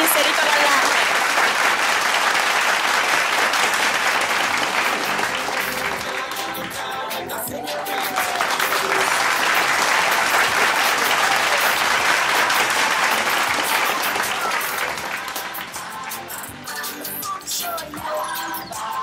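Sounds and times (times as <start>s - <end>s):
audience applauding: 0.0s - 16.9s
music playing: 0.0s - 19.0s.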